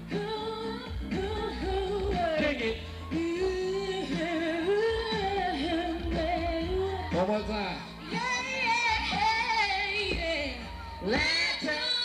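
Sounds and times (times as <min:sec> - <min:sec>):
backing music with heavy bass: 0:00.0 - 0:12.0
woman singing into a microphone: 0:00.0 - 0:12.0.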